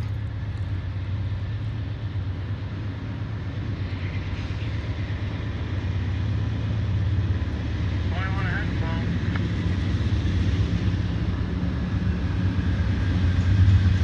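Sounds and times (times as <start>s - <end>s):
diesel locomotives droning: 0.0s - 14.0s.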